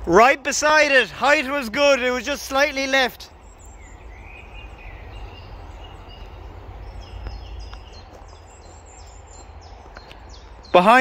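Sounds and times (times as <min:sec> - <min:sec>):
low rumble and hiss: 0:00.0 - 0:11.0
small birds chirping: 0:00.0 - 0:11.0.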